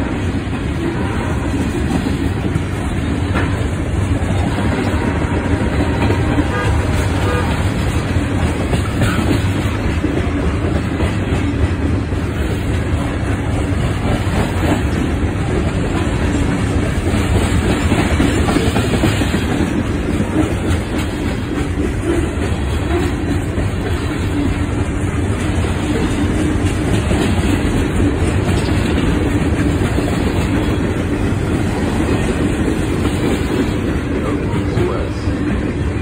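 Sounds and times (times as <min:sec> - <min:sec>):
freight train wheels rumbling on rails: 0:00.0 - 0:36.0.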